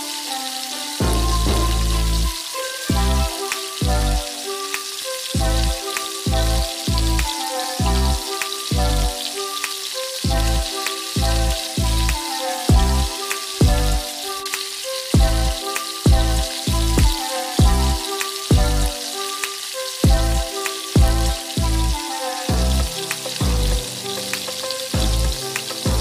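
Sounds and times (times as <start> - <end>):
deep-frying sizzle: 0.0 - 26.0
music with deep bass: 1.0 - 4.4, 5.4 - 9.3, 10.3 - 14.2, 15.2 - 19.0, 20.0 - 26.0.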